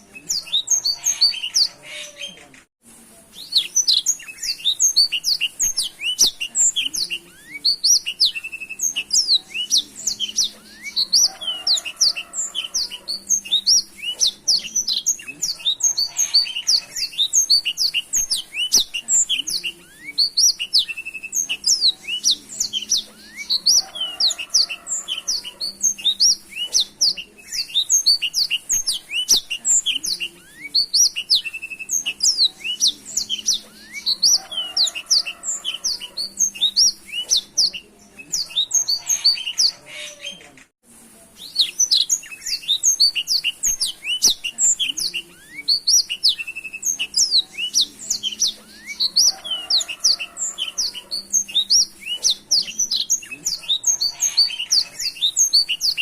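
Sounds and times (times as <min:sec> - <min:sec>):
canary singing: 0:00.0 - 0:02.7, 0:03.3 - 0:40.7, 0:41.4 - 0:56.0.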